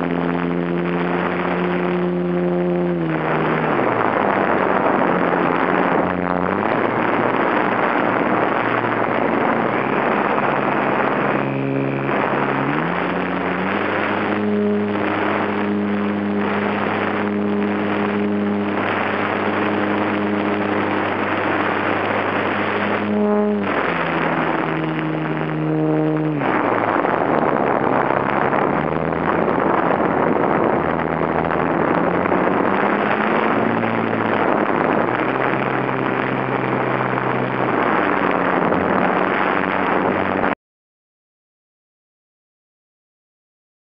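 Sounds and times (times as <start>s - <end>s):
electric motor and propeller humming: 0.0s - 40.6s
heavy wind rush: 0.0s - 40.6s.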